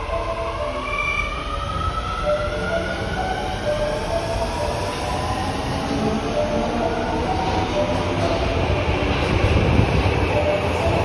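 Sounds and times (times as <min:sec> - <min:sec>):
train cars rumbling: 0:00.0 - 0:11.0.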